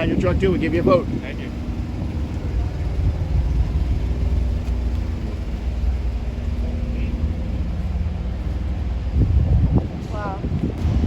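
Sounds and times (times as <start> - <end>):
diesel truck engine idling: 0.0 - 10.9.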